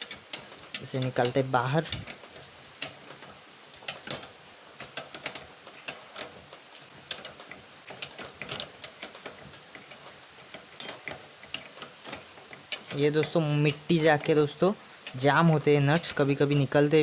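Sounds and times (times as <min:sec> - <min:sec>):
spanner clicking on nut: 0:00.0 - 0:17.0.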